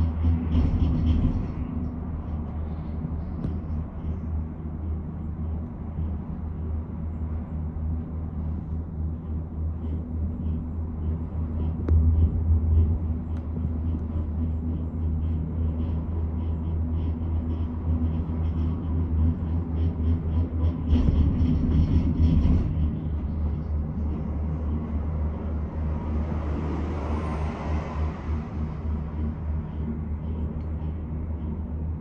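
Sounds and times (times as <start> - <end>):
gondola cabin rumble: 0.0 - 32.0.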